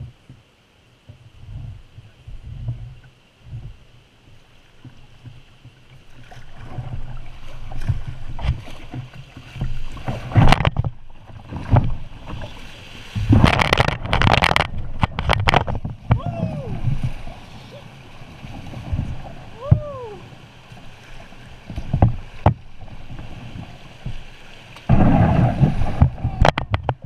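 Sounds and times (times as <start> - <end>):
rushing water: 0.0 - 27.0
water splashing against kayak hull: 0.0 - 27.0.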